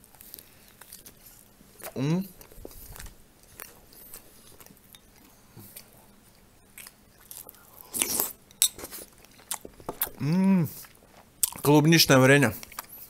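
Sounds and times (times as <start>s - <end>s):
person chewing: 0.0s - 11.7s, 12.5s - 13.0s.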